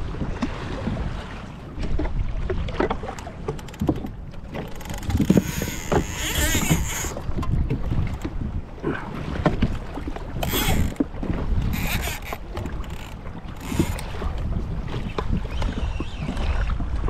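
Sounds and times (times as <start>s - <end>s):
water splashing against kayak hull: 0.0s - 17.0s
wind rumbling on microphone: 0.0s - 17.0s.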